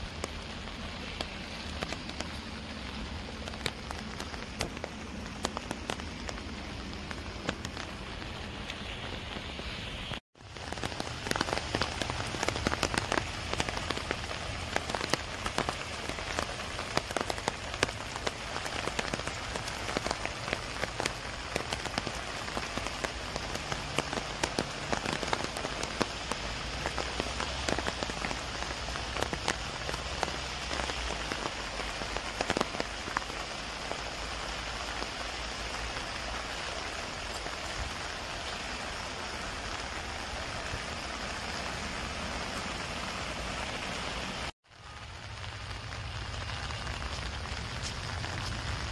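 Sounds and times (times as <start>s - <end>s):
rain falling on leaves: 0.0s - 48.9s.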